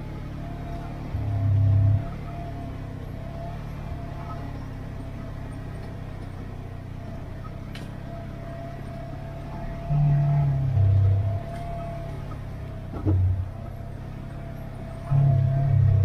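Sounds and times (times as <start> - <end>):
faint whine: 0.0 - 16.0
vehicle engine droning: 0.0 - 16.0.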